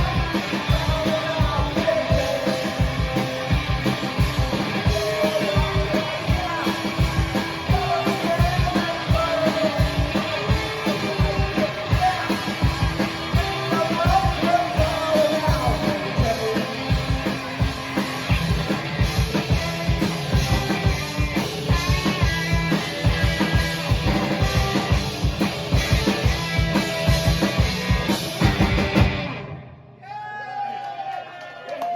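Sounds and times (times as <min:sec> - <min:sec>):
driving drum beat: 0:00.0 - 0:29.5
rock band with singing: 0:00.0 - 0:31.1.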